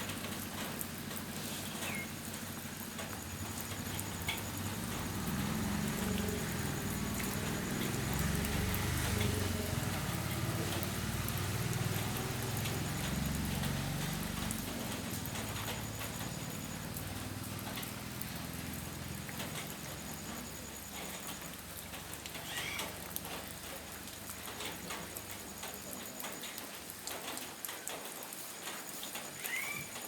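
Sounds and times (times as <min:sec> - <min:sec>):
drips ticking on hard surfaces: 0:00.0 - 0:30.0
rain falling: 0:00.0 - 0:30.0.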